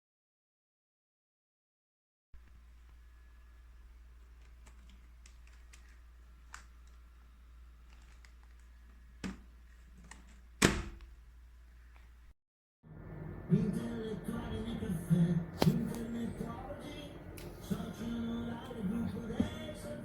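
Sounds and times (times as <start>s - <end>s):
low steady hum: 2.4s - 12.3s, 12.9s - 20.0s.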